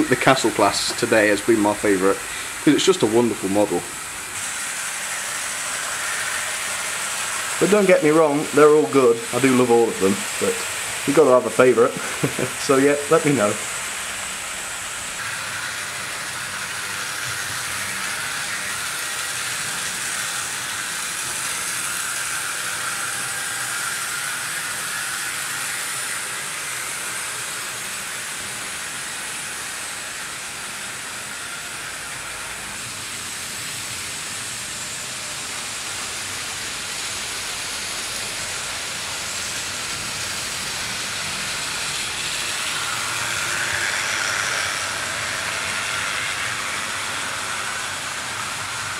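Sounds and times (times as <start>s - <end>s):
model trains whirring on track: 0.0s - 48.9s.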